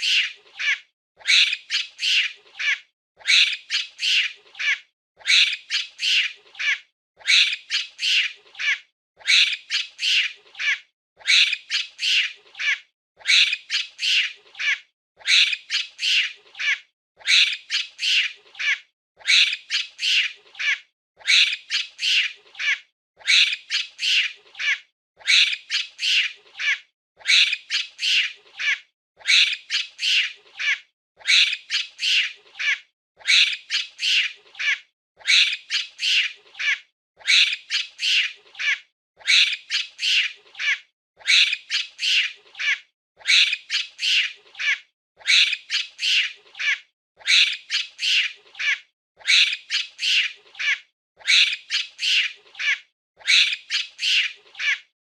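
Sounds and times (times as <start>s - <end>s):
monkey squeaky calls: 0.0s - 54.9s.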